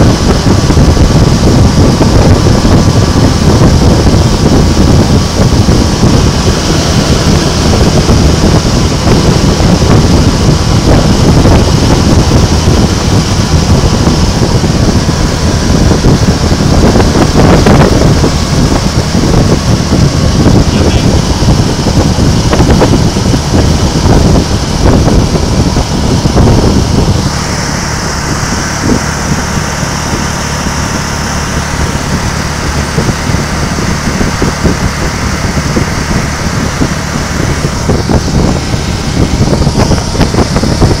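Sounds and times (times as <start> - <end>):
motorcycle engine running: 0.0 - 41.0
wind rumbling on microphone: 0.0 - 41.0.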